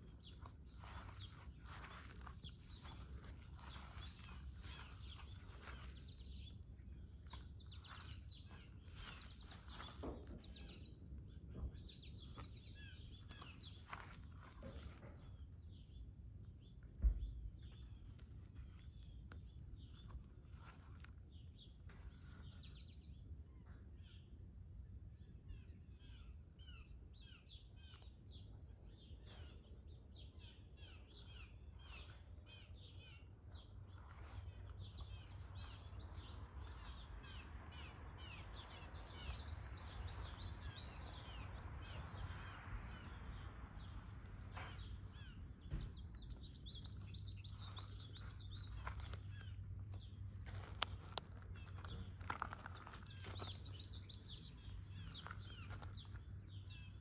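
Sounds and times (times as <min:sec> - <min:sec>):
steady low rumble: 0:00.0 - 0:22.3, 0:27.7 - 0:57.0
songbirds chirping and singing: 0:00.0 - 0:57.0.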